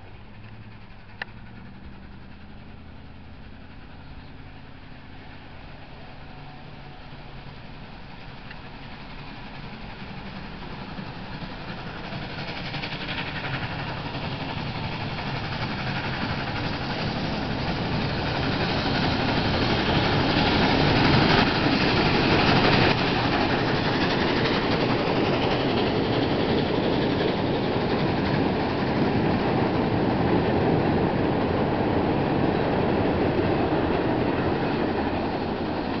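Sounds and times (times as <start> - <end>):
train cars rolling across bridge: 0.0 - 36.0.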